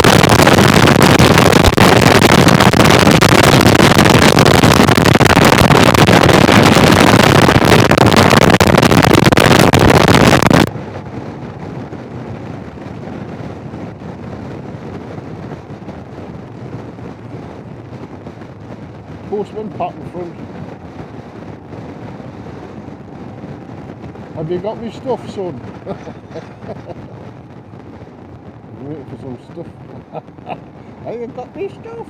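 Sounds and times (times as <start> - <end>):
motorcycle riding noise: 0.0 - 32.0
wind roaring over microphone: 0.0 - 32.0.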